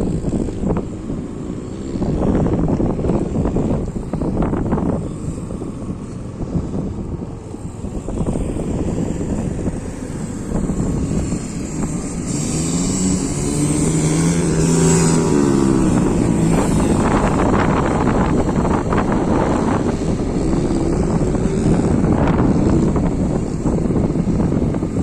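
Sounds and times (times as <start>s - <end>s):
loud multi-tone engine drone: 0.0s - 25.0s
vehicle engine running: 0.0s - 25.0s
wind buffeting microphone: 0.0s - 25.0s.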